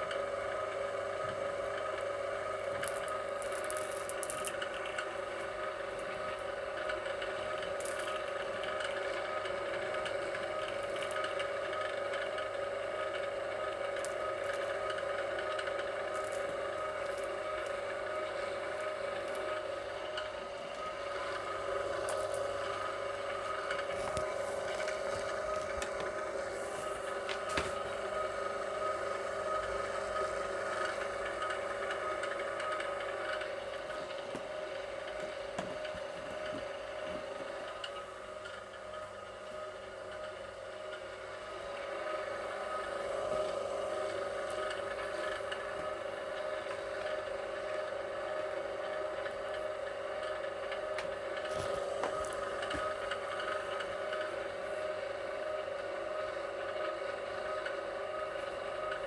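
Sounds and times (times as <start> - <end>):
wire stripper motor whining: 0.0 - 59.0.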